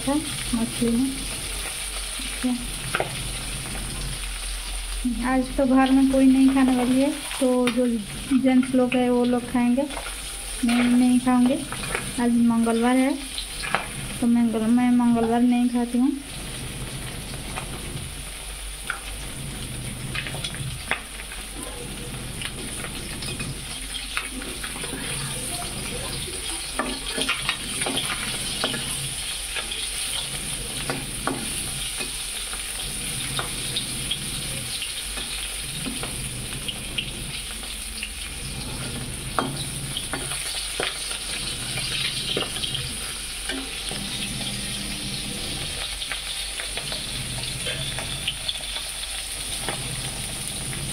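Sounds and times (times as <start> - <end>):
fish sizzling in oil: 0.0 - 50.9.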